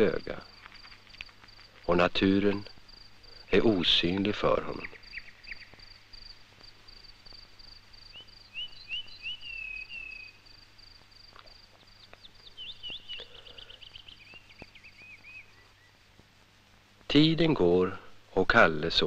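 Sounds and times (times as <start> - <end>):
insects: 0.0 - 19.0.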